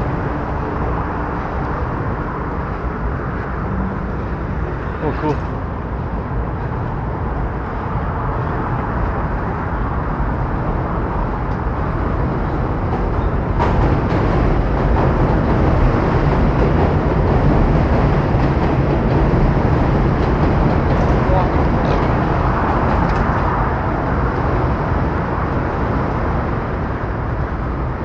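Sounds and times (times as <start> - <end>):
train rumbling across steel bridge: 0.0 - 28.0.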